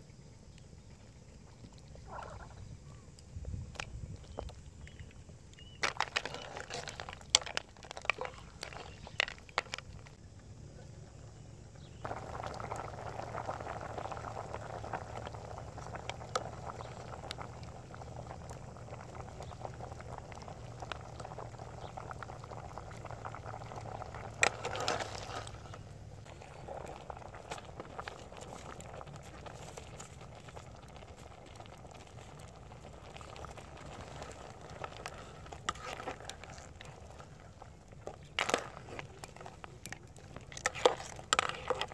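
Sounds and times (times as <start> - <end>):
soup boiling and bubbling: 0.2 - 41.9
fire popping and crackling: 3.1 - 41.9.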